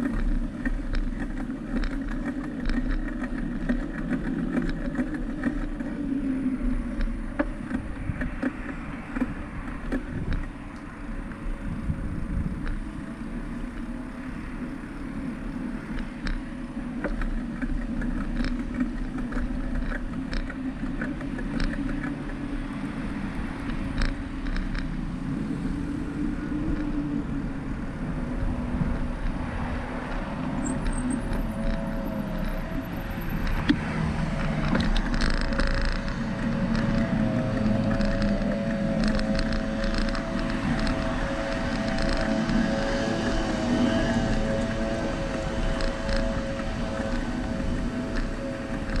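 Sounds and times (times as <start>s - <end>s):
bicycle road rumble: 0.0s - 49.0s
car traffic: 0.0s - 49.0s
wind: 0.0s - 49.0s.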